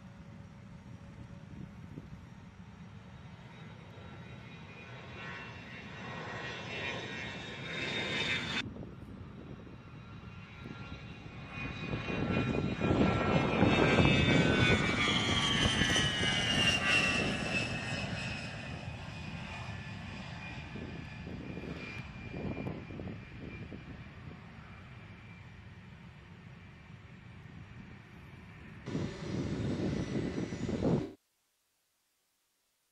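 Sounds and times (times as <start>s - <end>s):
jet flying past: 2.8s - 31.2s.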